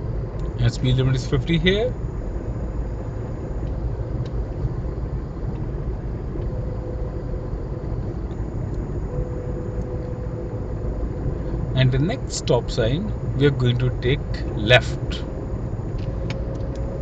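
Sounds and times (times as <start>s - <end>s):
car engine running: 0.0s - 17.0s
faint steady hum: 0.0s - 17.0s.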